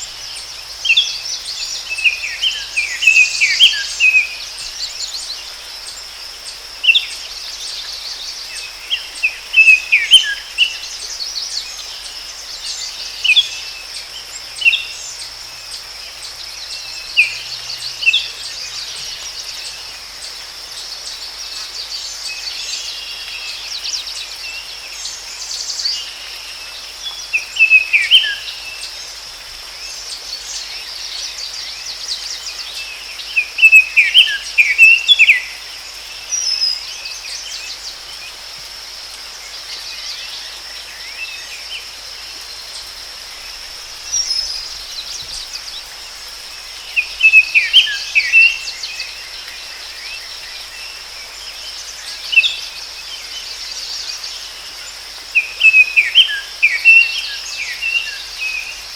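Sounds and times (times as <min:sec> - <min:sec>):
high insect drone: 0:00.0 - 0:58.9
songbirds chirping: 0:00.0 - 0:58.9.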